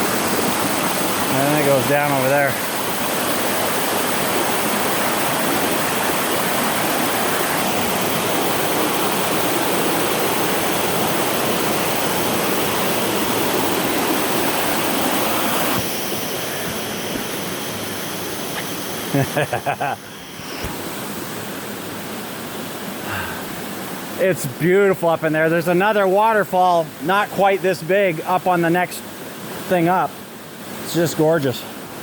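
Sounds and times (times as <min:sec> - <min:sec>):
waterfall rushing over rocks: 0:00.0 - 0:32.0.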